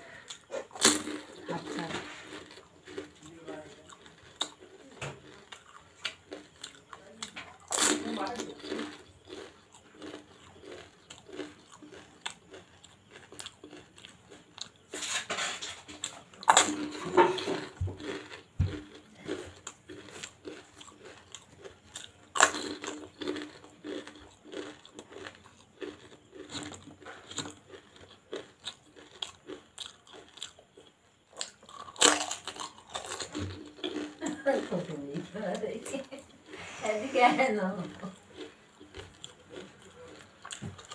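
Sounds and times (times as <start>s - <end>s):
crunchy food being chewed: 0.0s - 40.9s.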